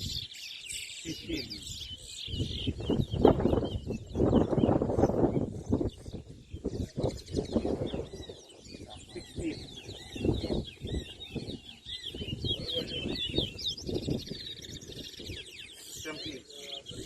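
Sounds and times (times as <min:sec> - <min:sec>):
finch singing whistled notes: 0:00.0 - 0:17.0.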